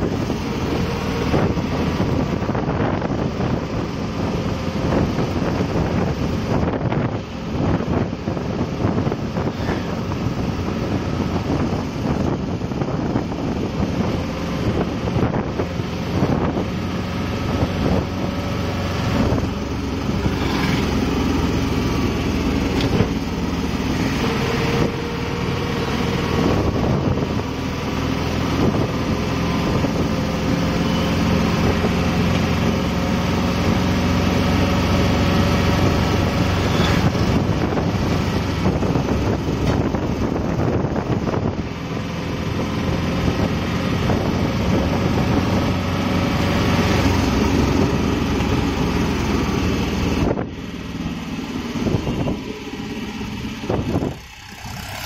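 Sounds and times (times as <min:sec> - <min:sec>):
road and wind noise: 0:00.0 - 0:55.0
small engine running: 0:00.0 - 0:55.0.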